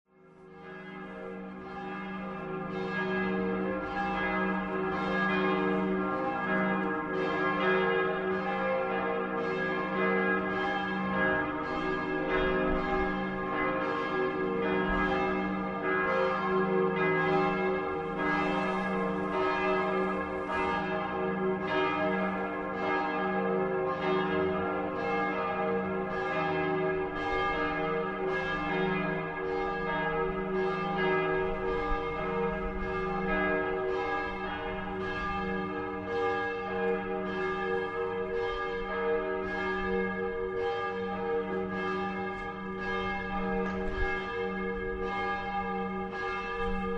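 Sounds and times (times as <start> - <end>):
church bells ringing in a peal: 0.1 - 46.9.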